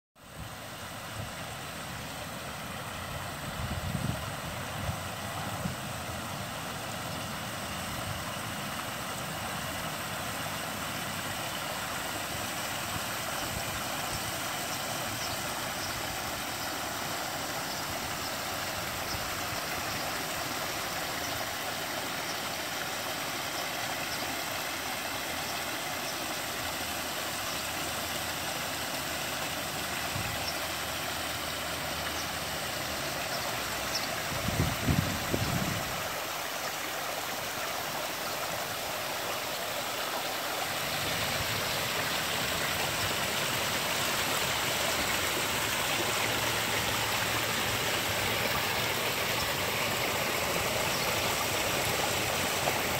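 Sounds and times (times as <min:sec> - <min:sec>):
waterfall rushing: 0:00.3 - 0:52.9.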